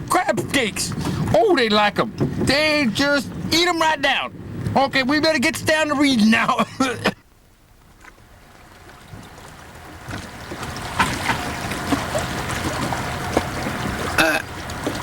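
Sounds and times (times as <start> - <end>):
low steady hum: 0.0 - 15.0
water washing against boat: 0.0 - 15.0.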